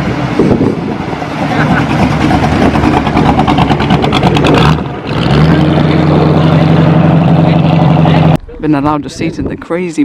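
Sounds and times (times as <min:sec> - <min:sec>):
car engine exhaust roaring: 0:00.0 - 0:08.5.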